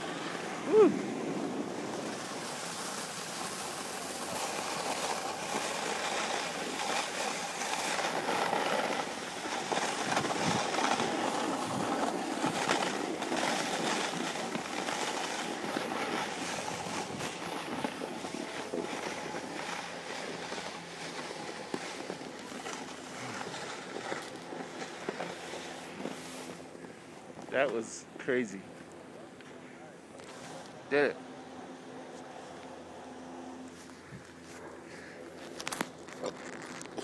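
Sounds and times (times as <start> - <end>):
snowboard scraping over snow: 0.0 - 28.6, 30.2 - 37.0.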